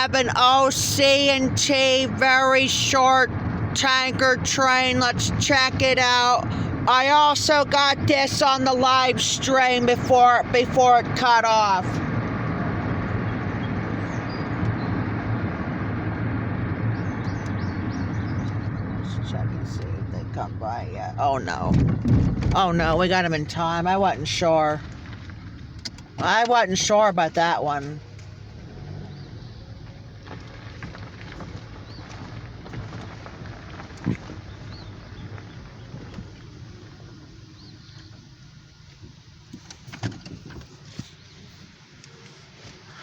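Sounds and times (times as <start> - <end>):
diesel freight train rumbling: 0.0 - 39.3
low engine hum: 0.0 - 43.0.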